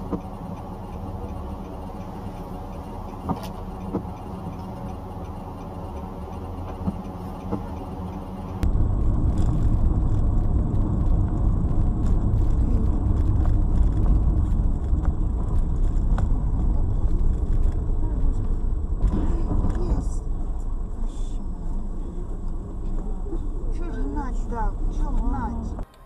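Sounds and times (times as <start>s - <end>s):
road and tyre rumble: 0.0s - 26.0s
vehicle engine hum: 0.0s - 26.0s.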